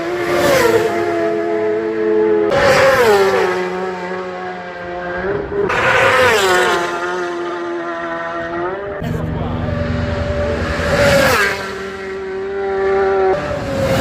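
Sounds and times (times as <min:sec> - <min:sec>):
racing motorcycles passing: 0:00.0 - 0:14.0.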